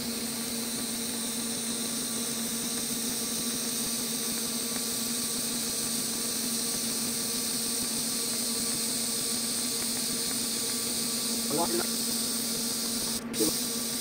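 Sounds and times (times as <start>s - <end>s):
welding arc buzzing hiss: 0.0s - 14.0s.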